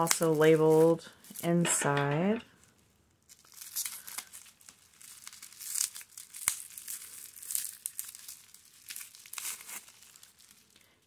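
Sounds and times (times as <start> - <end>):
bubble wrap crinkling and tearing: 0.0 - 1.6, 2.5 - 11.0.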